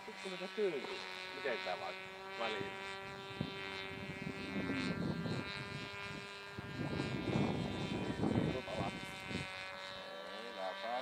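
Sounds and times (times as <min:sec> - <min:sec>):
model airplane motor whining: 0:00.0 - 0:11.0.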